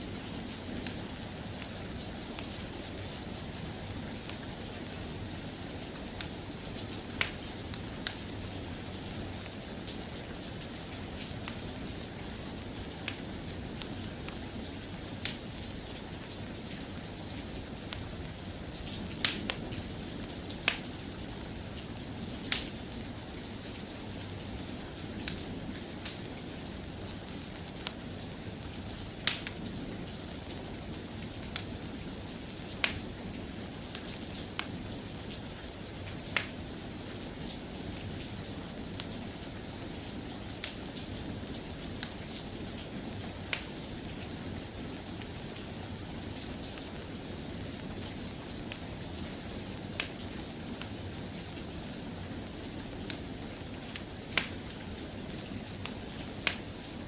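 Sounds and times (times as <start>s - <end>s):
soft rain: 0.0s - 57.0s
wood fire crackling: 0.1s - 57.0s.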